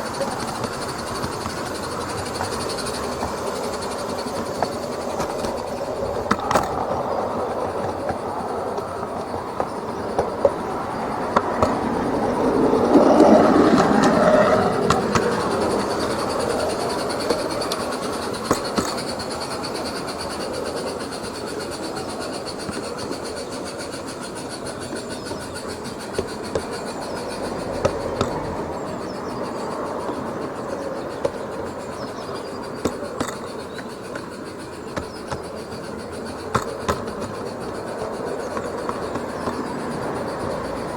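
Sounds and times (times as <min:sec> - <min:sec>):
model train wheels clicking on track: 0:00.0 - 0:40.9.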